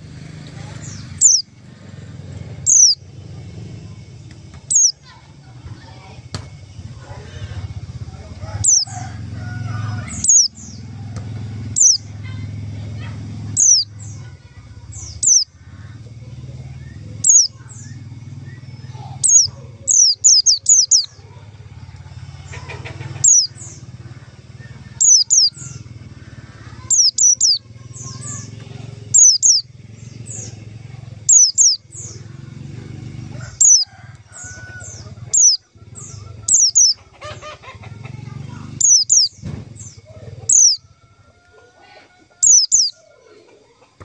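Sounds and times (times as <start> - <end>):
bird chirping: 0.0 - 41.0, 42.3 - 43.4.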